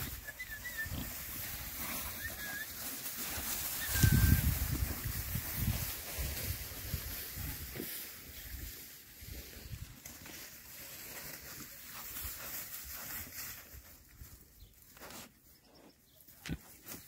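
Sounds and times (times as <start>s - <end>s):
boars snuffling and grunting: 0.0s - 17.0s
grass rustling: 0.0s - 17.0s.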